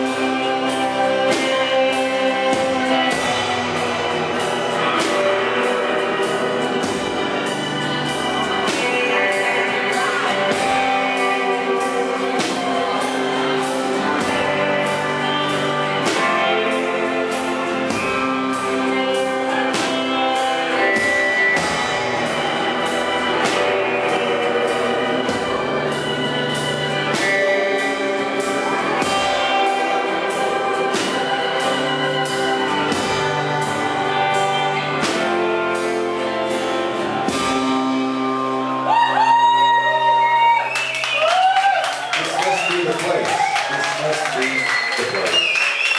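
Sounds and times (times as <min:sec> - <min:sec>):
acoustic guitar: 0:00.0 - 0:45.9
drum kit beat: 0:00.0 - 0:45.9
keyboard: 0:00.0 - 0:45.9.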